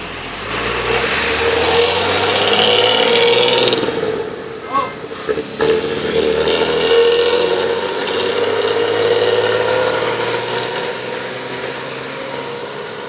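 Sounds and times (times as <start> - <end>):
bus engine growling: 0.0 - 13.0.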